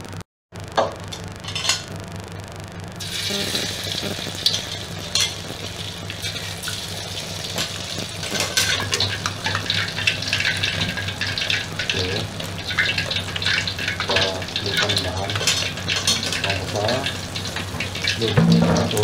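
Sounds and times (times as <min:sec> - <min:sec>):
chicken wings sizzling in oil: 0:03.0 - 0:19.0.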